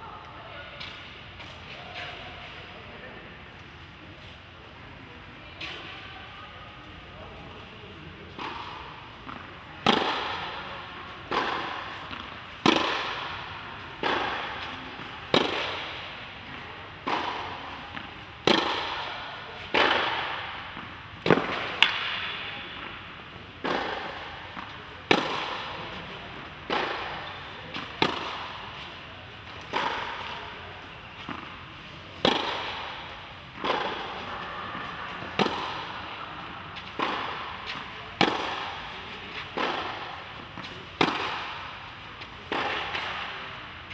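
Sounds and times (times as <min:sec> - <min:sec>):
tennis balls struck with rackets: 0:08.3 - 0:43.9.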